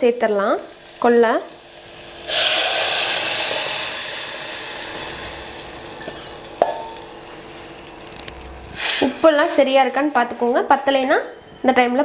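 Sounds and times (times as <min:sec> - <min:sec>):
liquid sizzling in hot oil: 0:00.0 - 0:10.4.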